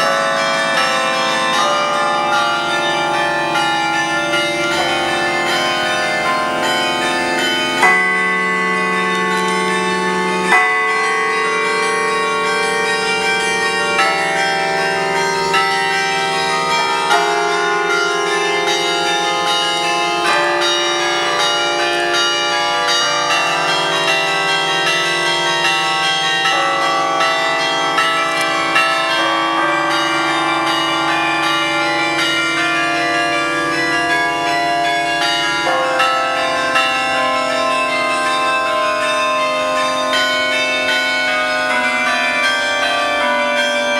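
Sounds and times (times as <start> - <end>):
carillon bells playing a tune: 0.0 - 43.9.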